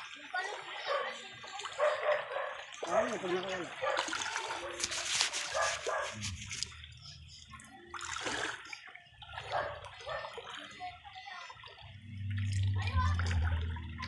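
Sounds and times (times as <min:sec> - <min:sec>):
water splashing in a stream: 0:00.0 - 0:14.0.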